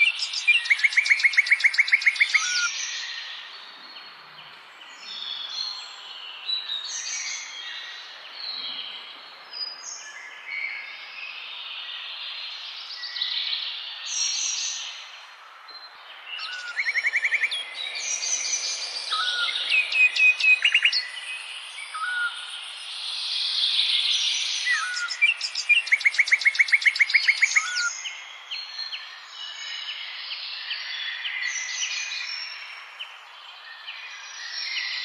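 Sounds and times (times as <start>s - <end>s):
songbirds singing and chirping: 0.0s - 35.0s.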